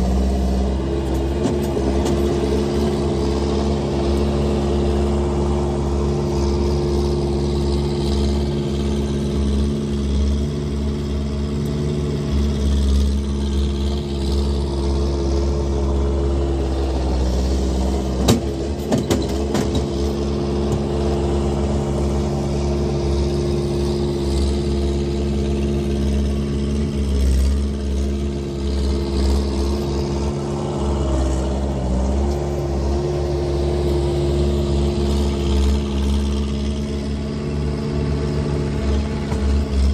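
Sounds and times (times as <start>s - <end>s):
skid steer engine running: 0.0s - 39.9s.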